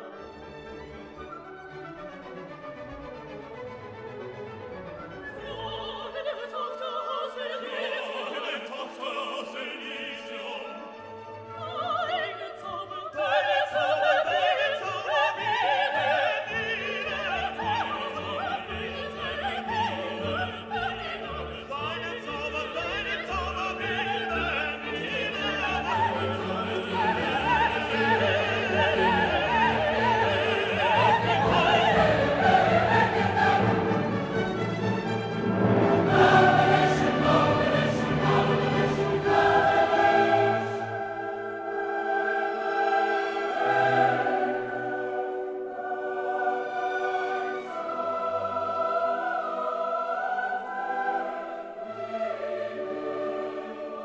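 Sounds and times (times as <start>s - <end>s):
orchestral music with operatic singing: 0.0s - 54.0s.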